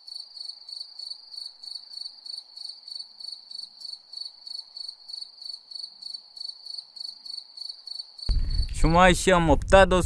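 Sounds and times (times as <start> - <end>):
crickets chirping: 0.0 - 8.8.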